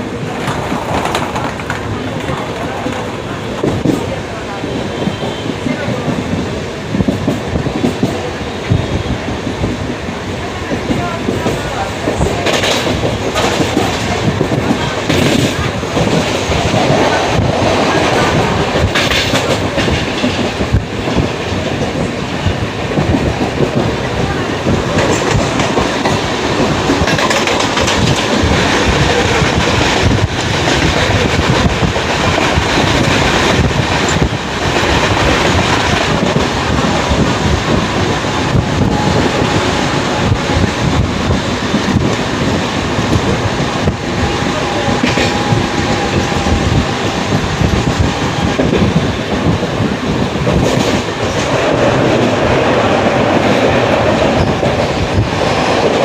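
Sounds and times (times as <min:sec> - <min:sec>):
train wheels clattering over rail joints: 0:00.3 - 0:04.2, 0:10.8 - 0:44.1, 0:44.8 - 0:56.0.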